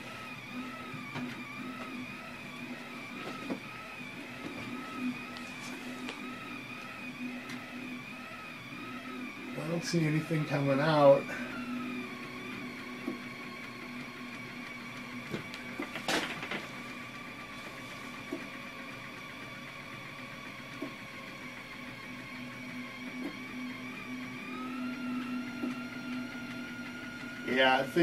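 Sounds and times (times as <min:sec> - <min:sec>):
stepper motor whine: 0:00.0 - 0:28.0.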